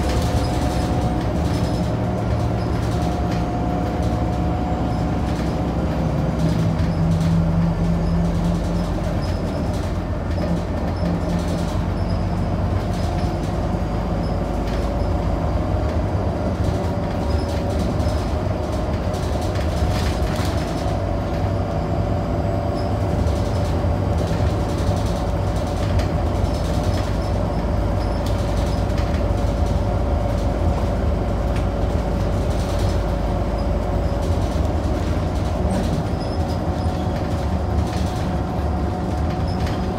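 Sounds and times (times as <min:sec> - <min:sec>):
bus engine rumbling: 0:00.0 - 0:39.9.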